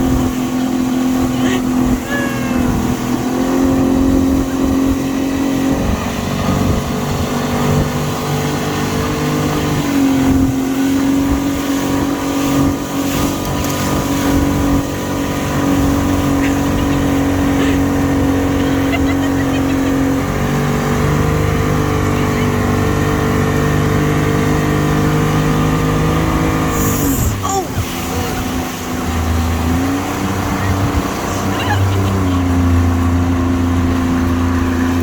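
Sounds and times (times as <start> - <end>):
motor droning hum: 0.0 - 35.0.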